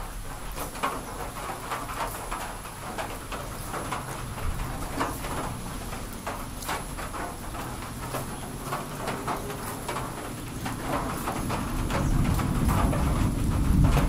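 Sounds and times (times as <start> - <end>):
rain dripping and pattering: 0.0 - 14.0.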